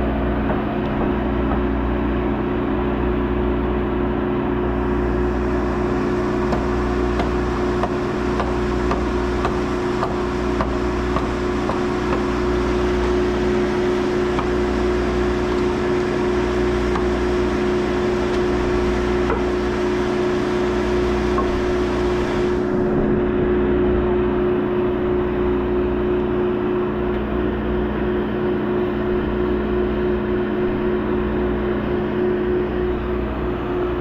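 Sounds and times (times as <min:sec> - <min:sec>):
skid steer engine running: 0:00.0 - 0:34.0.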